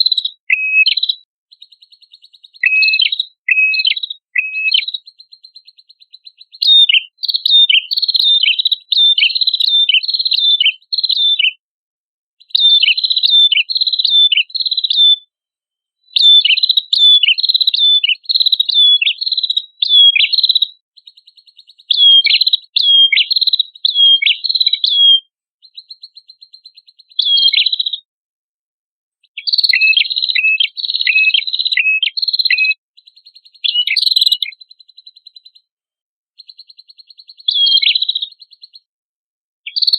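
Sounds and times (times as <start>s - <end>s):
songbird chirping: 0.0s - 11.6s, 12.4s - 15.3s, 16.1s - 28.1s, 29.2s - 35.7s, 36.4s - 38.9s, 39.6s - 39.9s.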